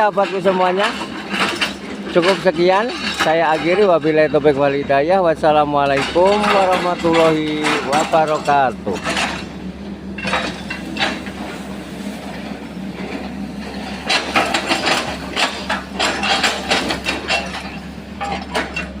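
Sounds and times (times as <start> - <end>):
excavator engine running: 0.0 - 19.0.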